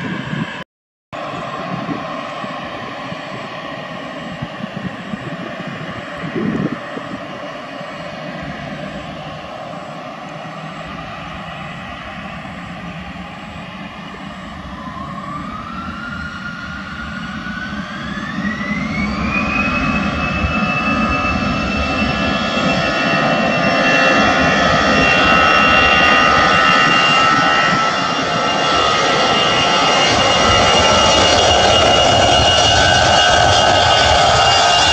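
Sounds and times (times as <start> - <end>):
jet engines spooling up: 1.2 - 34.9.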